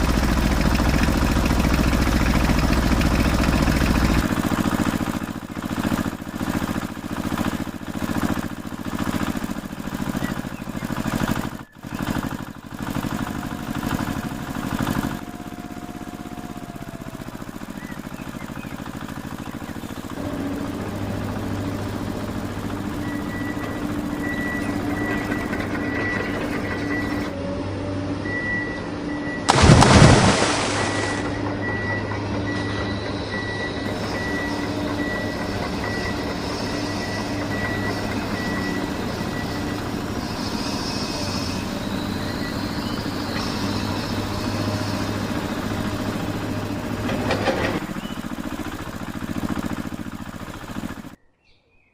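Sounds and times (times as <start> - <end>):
small motors humming: 0.0 - 28.0, 29.5 - 51.2.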